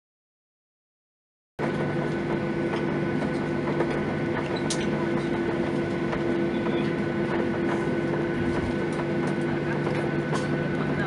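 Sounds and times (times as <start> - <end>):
jet engines humming and whining: 1.6 - 11.0.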